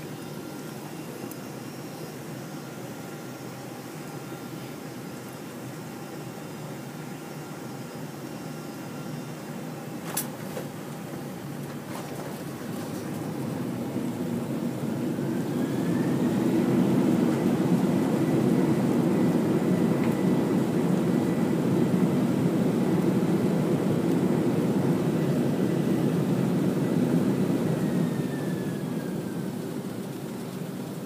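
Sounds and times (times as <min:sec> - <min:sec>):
jet engine roar: 0:00.0 - 0:31.0
jet engine whine: 0:00.0 - 0:31.0.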